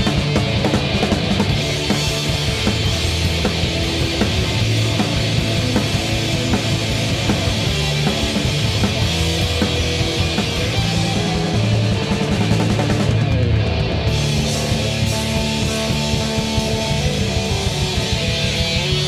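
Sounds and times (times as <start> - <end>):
loud rock music: 0.0 - 19.0.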